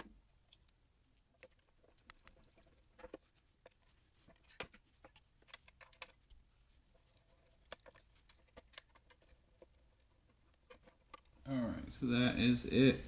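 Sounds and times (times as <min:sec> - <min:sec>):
small hard parts clicking: 0:00.0 - 0:11.5.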